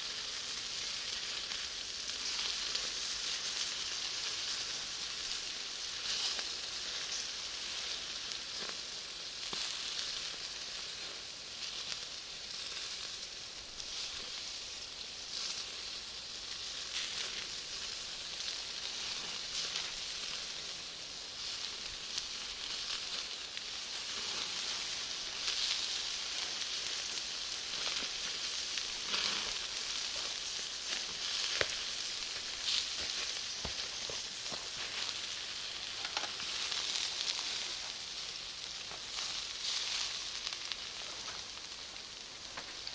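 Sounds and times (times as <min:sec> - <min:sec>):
charcoal crackling and popping: 0:00.0 - 0:42.9
sausages sizzling on grill: 0:00.0 - 0:42.9.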